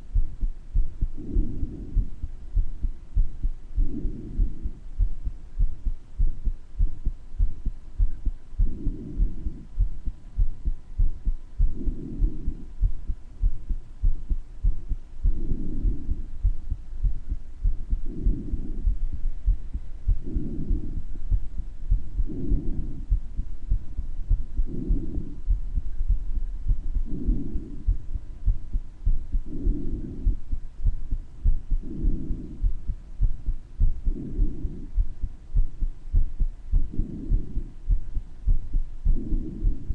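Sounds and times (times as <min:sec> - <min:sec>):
heartbeat with murmur: 0:00.0 - 0:39.9
breath sound: 0:00.1 - 0:06.3, 0:07.4 - 0:39.9.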